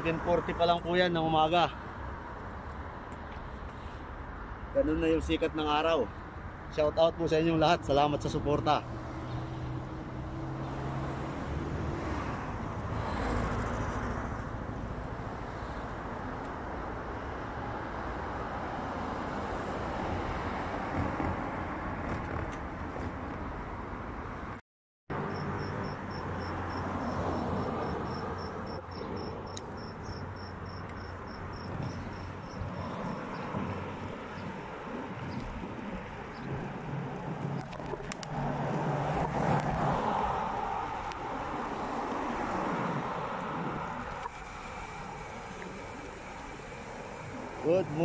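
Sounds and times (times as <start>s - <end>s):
cars passing on road: 0.0s - 48.0s.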